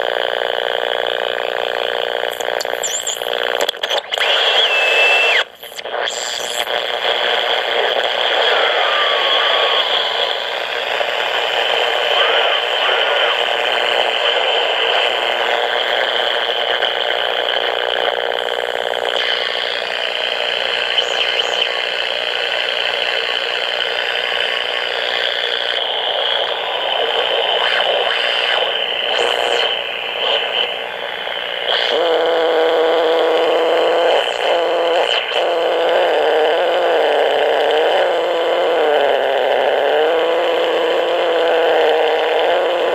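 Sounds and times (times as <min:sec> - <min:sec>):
radio static and buzz: 0:00.0 - 0:42.9.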